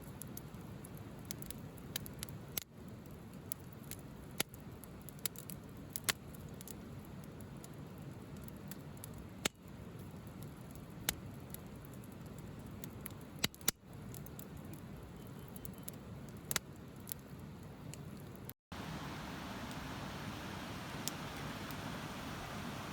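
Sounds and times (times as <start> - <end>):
firewood crackling: 0.0 - 22.9.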